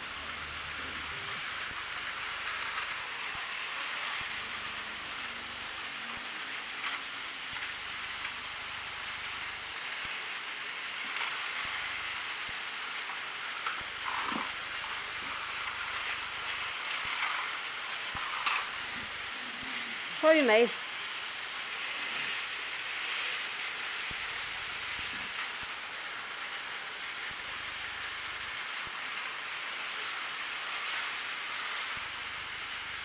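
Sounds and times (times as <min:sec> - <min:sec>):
toy train motors whirring: 0:00.0 - 0:33.0.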